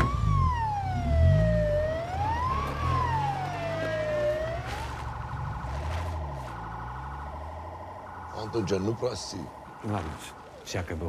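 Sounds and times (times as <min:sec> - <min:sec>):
police siren wailing: 0:00.0 - 0:11.0.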